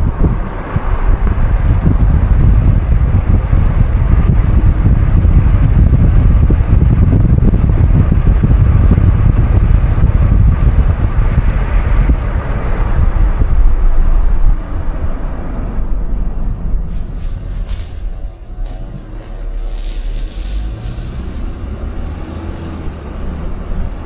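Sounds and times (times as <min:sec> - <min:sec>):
car road noise: 0:00.0 - 0:24.0
wind buffeting microphone: 0:00.0 - 0:24.0.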